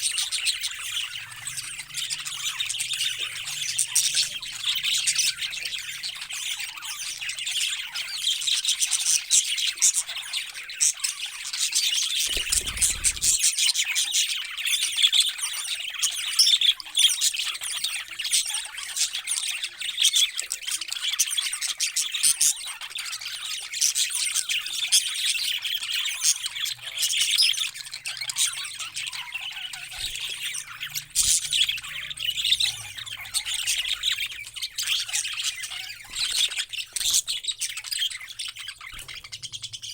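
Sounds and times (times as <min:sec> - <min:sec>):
parrots chirping and squawking: 0:00.0 - 0:14.7, 0:15.4 - 0:39.9.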